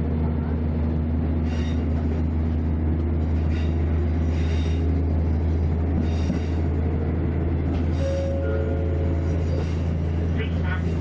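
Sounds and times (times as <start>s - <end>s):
train engine drone: 0.0s - 11.0s.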